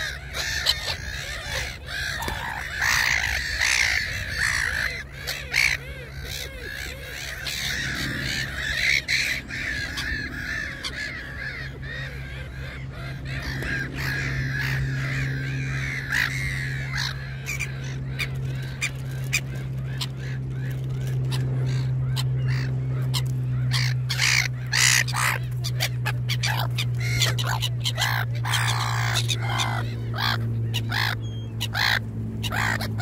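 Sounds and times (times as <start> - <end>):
birds calling: 0.0 - 33.0
steady low hum: 0.0 - 33.0.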